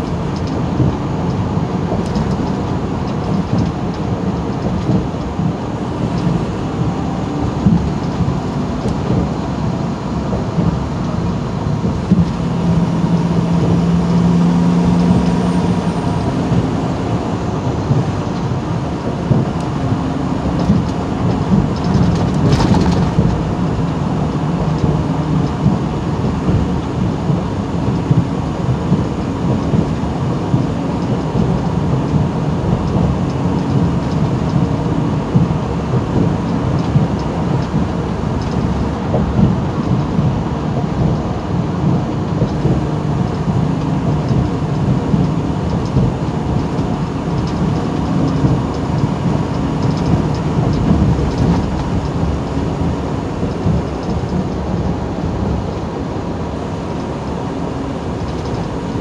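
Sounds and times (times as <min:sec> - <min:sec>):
diesel engine drone: 0:00.0 - 0:59.0
road and wind noise: 0:00.0 - 0:59.0.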